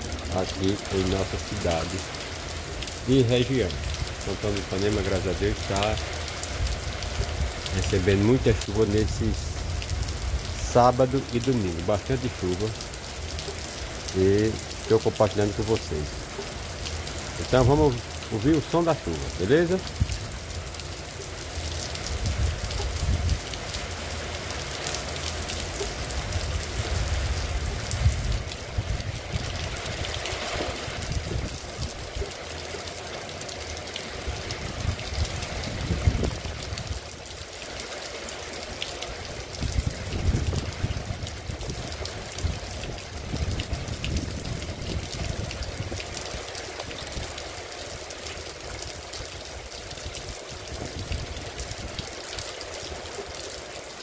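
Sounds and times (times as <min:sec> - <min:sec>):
heavy rain on cobblestones: 0:00.0 - 0:54.0.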